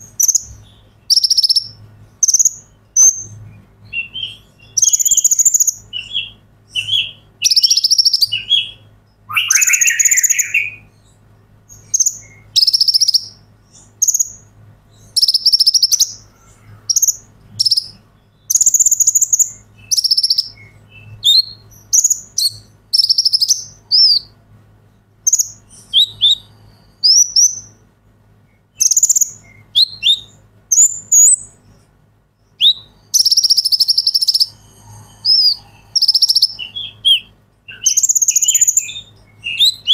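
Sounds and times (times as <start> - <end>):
sunbird singing high trills: 0.0 - 24.3, 25.2 - 27.8, 28.5 - 31.6, 32.4 - 39.9.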